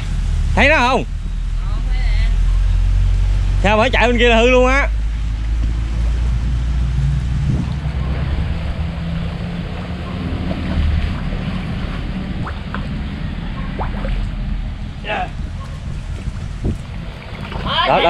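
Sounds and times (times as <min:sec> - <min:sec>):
wind rushing on microphone: 0:02.3 - 0:18.0.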